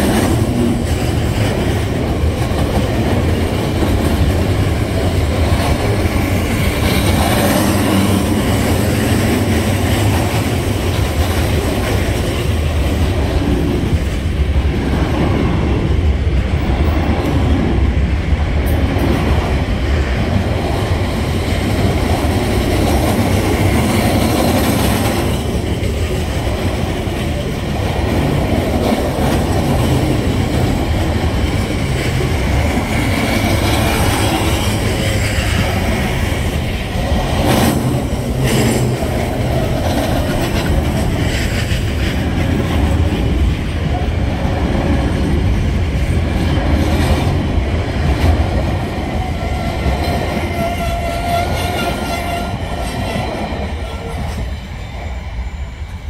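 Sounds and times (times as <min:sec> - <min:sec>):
wheels clacking over rail joints: 0:00.0 - 0:54.5
freight train wheels rumbling: 0:00.0 - 0:56.0.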